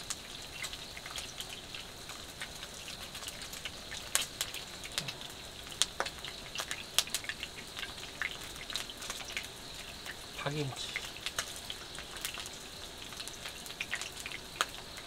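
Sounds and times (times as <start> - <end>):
meat sizzling on a grill pan: 0.0 - 15.0.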